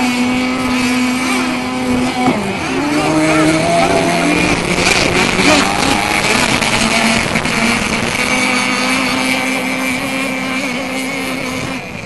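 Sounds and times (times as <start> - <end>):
model boat motors buzzing: 0.0 - 12.0.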